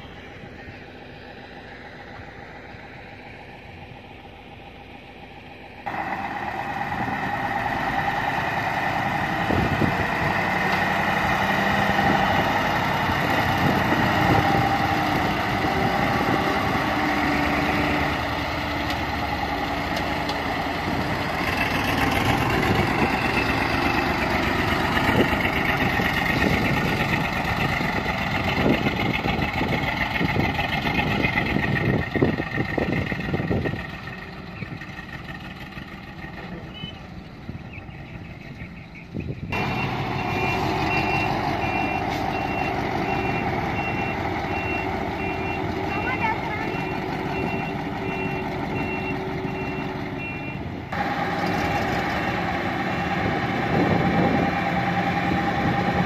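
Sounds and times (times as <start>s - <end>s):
dump truck diesel engines passing: 0.0s - 56.0s.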